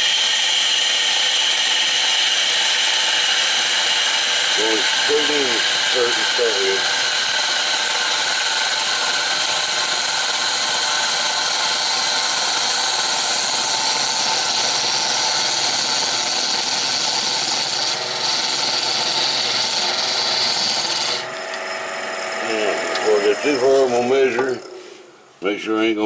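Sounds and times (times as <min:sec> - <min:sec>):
lathe tool cutting and scraping wood: 0:00.0 - 0:25.3
lathe motor whine: 0:00.0 - 0:25.4.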